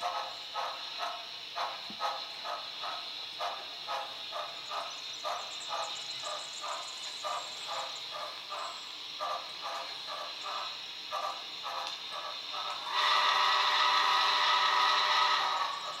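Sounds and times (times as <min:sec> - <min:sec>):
steady steam hiss: 0:00.0 - 0:16.0
steam locomotive exhaust chuffs: 0:00.0 - 0:16.0.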